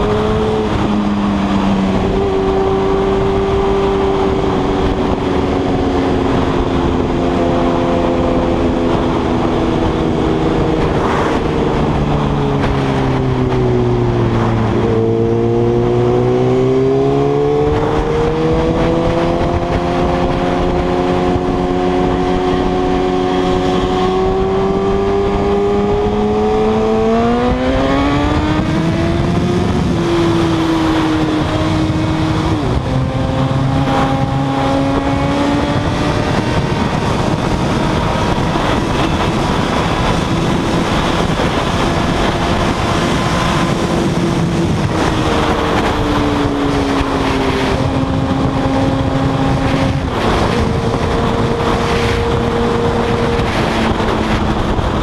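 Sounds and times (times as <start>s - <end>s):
motorcycle engine at speed: 0.0s - 55.0s
wind rush: 0.0s - 55.0s.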